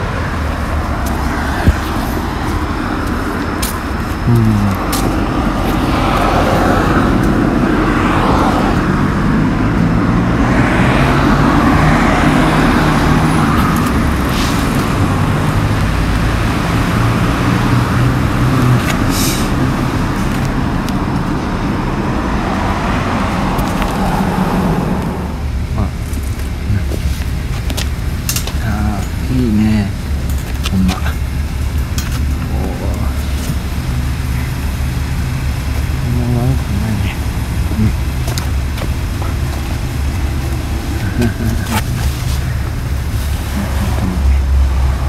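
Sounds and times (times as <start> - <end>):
road traffic: 0.0 - 45.0.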